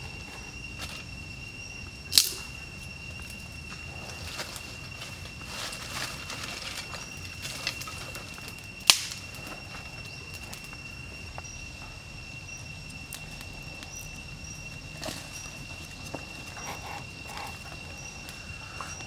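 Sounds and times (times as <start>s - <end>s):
campfire crackling: 0.0s - 19.0s
high-pitched insect buzz: 0.0s - 19.0s.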